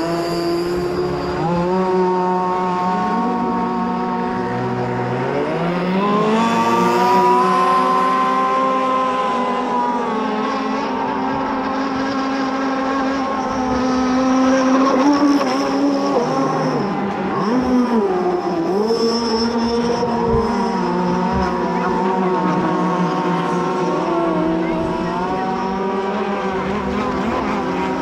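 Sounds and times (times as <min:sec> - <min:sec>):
model boat engines buzzing: 0:00.0 - 0:28.0.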